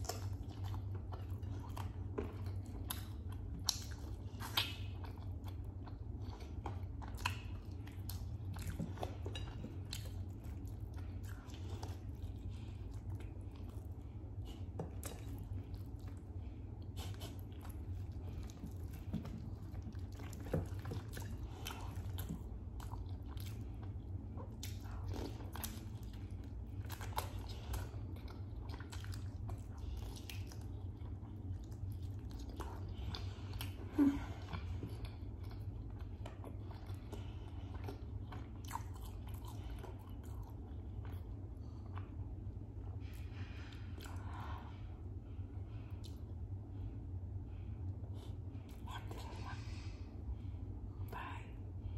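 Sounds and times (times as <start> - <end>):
person chewing chicken: 0.0 - 45.2
low hum: 0.0 - 51.9.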